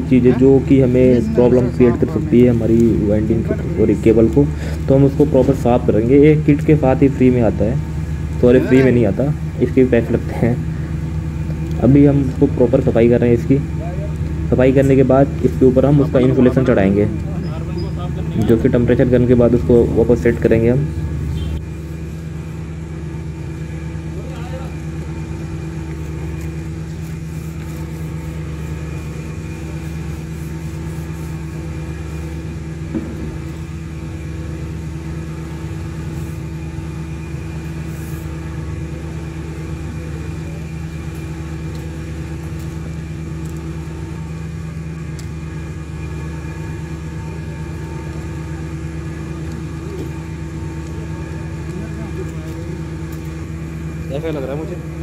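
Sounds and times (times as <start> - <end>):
low machine drone: 0.0 - 55.0.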